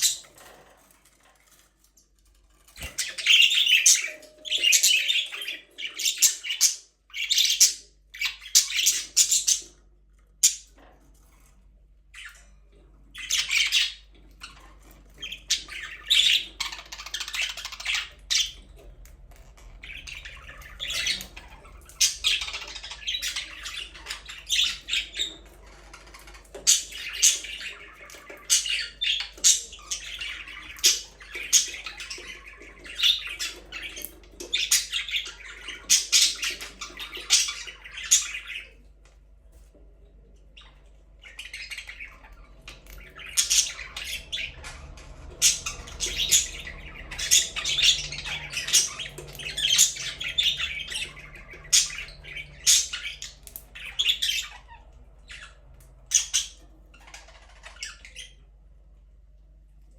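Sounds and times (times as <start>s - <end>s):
budgerigars chirping and squawking: 0.0s - 59.6s.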